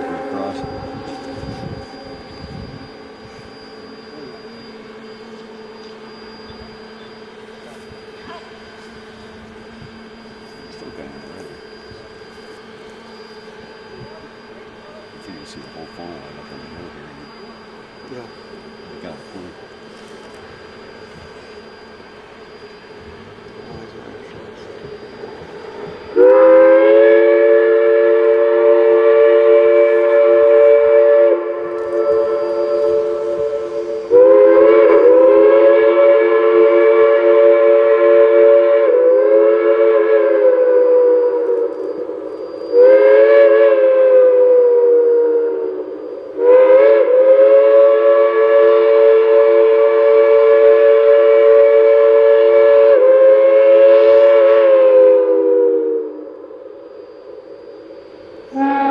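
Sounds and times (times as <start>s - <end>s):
steam locomotive chime whistle: 0.0s - 58.9s.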